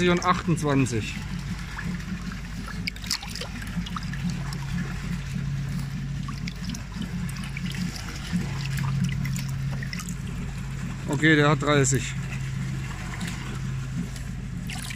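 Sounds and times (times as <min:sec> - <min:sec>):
small water splashes: 0:00.0 - 0:11.2, 0:11.8 - 0:14.9
steady low hum: 0:00.0 - 0:14.9
water sloshing in a bucket: 0:00.0 - 0:14.9.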